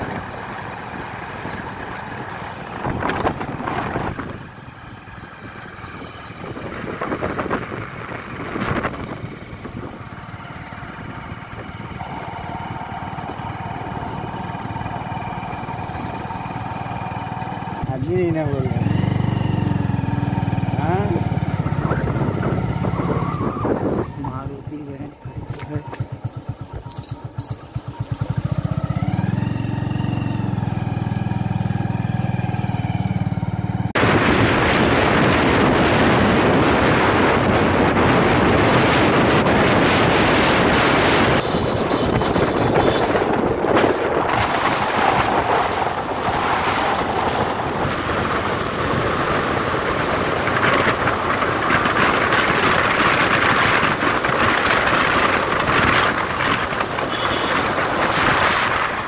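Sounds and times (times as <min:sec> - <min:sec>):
motorcycle engine running: 0:00.0 - 0:59.0
rushing wind and road noise: 0:00.0 - 0:59.0.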